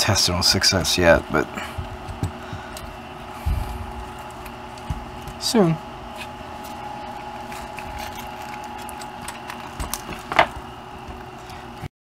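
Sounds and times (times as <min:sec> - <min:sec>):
steady background hum: 0:00.0 - 0:11.9.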